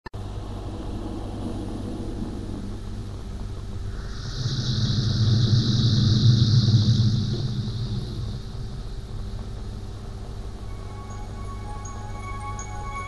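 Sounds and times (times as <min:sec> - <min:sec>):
underwater rumble: 0:00.2 - 0:12.1
faint hum: 0:00.2 - 0:13.0.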